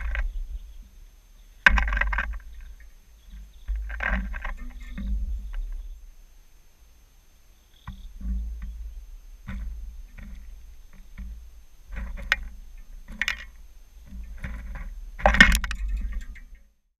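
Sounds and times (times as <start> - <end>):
seeds rattling and clicking: 0.0 - 6.0, 7.8 - 16.6.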